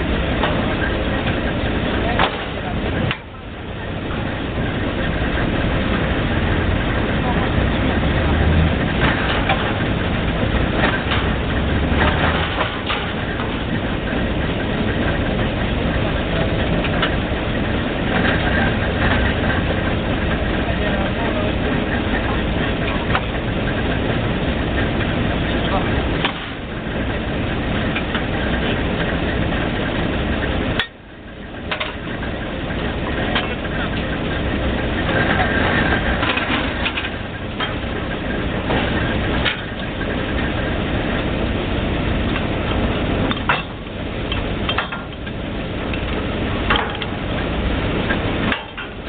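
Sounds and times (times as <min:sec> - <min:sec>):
drilling rig engine running: 0:00.0 - 0:49.0.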